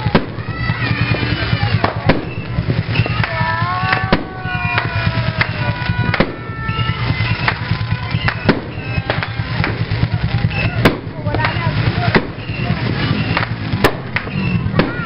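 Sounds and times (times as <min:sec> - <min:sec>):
fireworks bursting with bangs: 0:00.0 - 0:15.0
fireworks crackling: 0:00.0 - 0:15.0.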